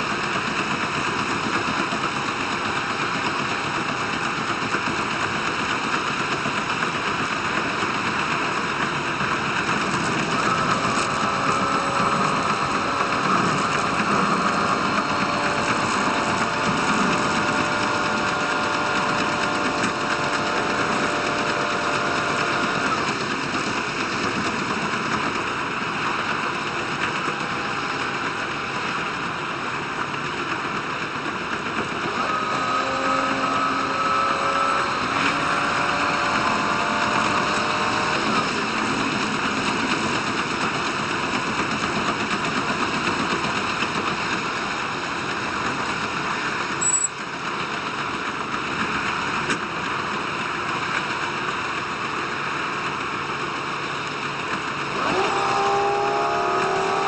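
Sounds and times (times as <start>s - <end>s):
diesel engine drone: 0.0s - 57.0s
wheels on rails: 0.0s - 57.0s.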